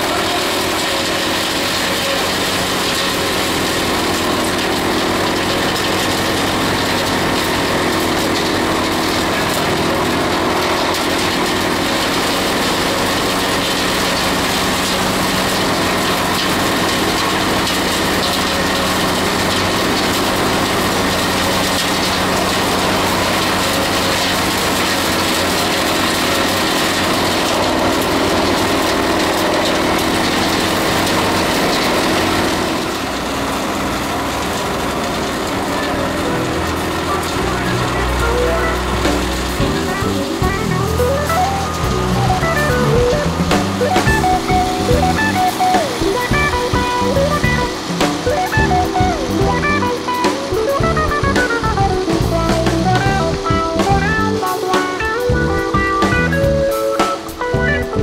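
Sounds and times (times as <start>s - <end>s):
wood chipper engine drone: 0.0s - 58.0s.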